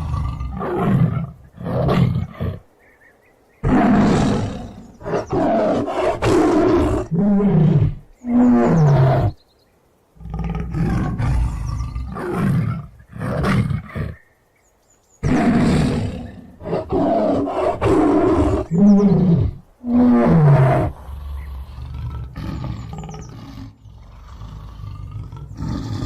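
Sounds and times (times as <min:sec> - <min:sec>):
tiger roaring: 0:00.0 - 0:02.7, 0:03.6 - 0:09.4, 0:10.2 - 0:14.2, 0:15.2 - 0:26.0.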